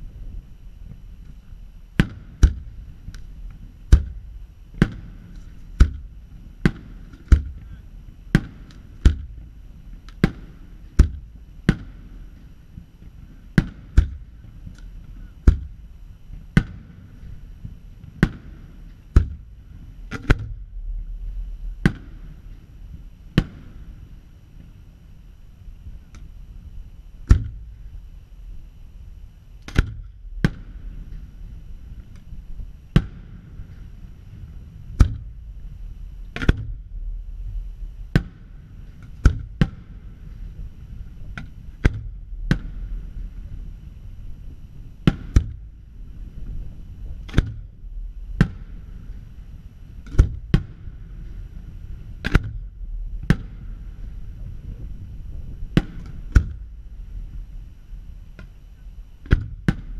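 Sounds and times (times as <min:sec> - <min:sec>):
low rumble: 0:00.0 - 0:59.9.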